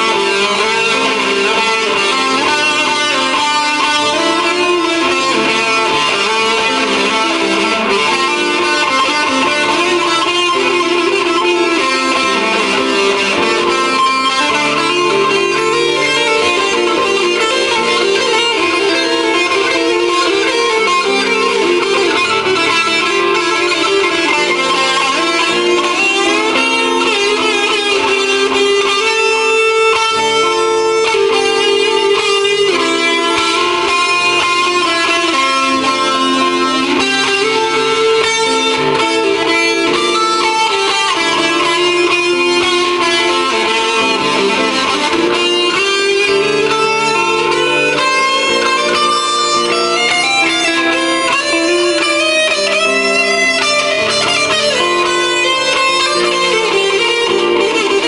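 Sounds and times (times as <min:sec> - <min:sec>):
electric guitar with reverb: 0:00.0 - 0:58.0.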